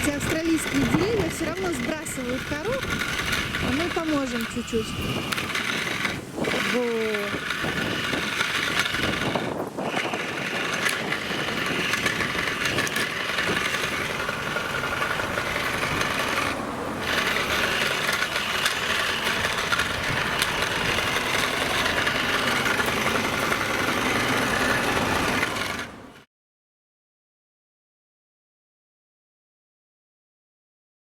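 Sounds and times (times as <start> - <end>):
chain rasping on tree bark: 0.0 - 26.3
toy chainsaw buzzing: 0.0 - 26.3.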